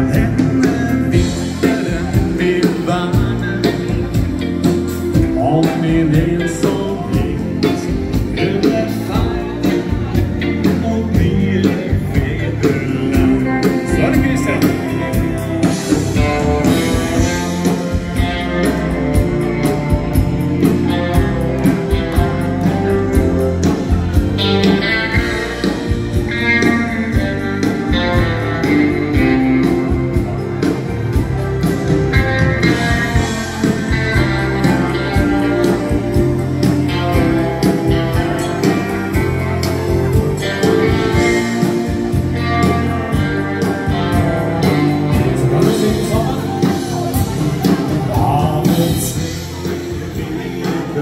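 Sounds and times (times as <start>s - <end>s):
live dance band instrumental: 0.0s - 51.0s.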